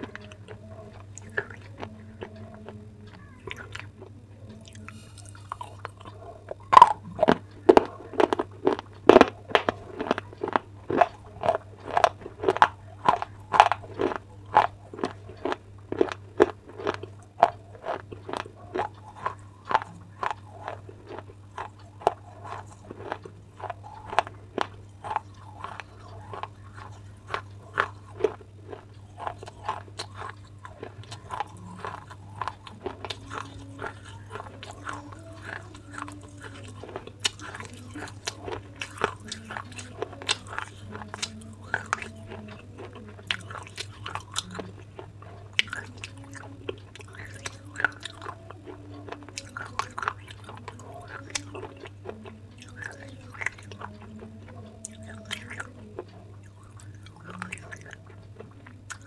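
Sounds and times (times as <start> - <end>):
clay pieces crunching when chewed: 0.0 - 59.0
steady low hum: 0.0 - 59.0.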